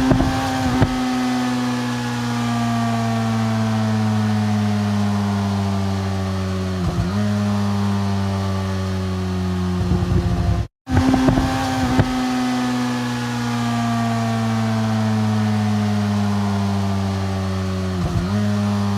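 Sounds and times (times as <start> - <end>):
motorcycle engine decelerating: 0.0 - 18.9.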